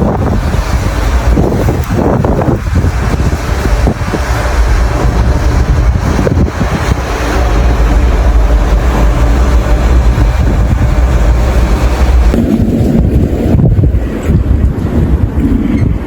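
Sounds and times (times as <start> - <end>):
blizzard wind buffeting microphone: 0.0 - 16.0.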